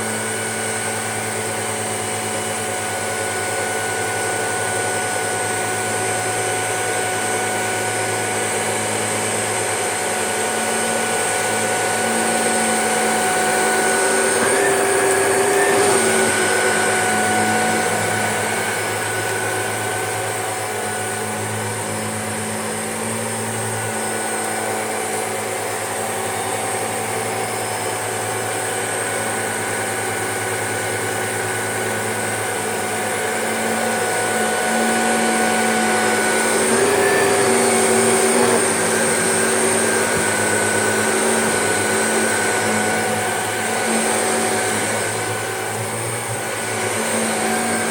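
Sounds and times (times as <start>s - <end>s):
vacuum cleaner on carpet: 0.0s - 47.9s.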